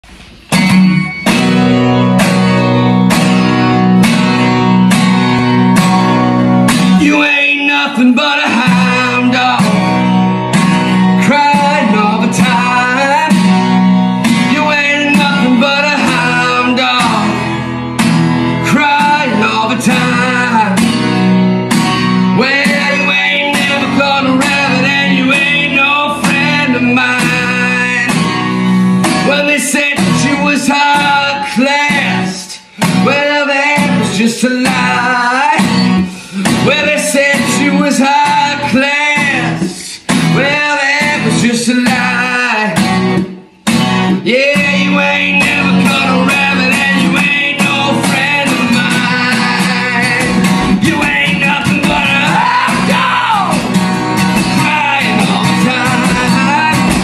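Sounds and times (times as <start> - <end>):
acoustic guitar strumming: 0.0 - 57.0
man singing: 6.7 - 21.3, 22.1 - 43.4, 44.0 - 57.0.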